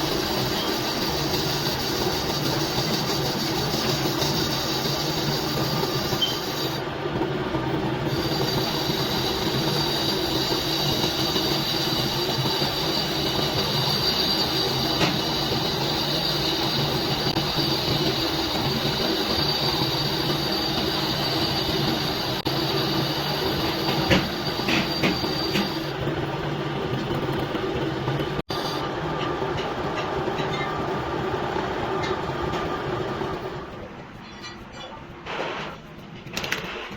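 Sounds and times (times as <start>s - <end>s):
metal-working machine whine: 0.0s - 35.0s.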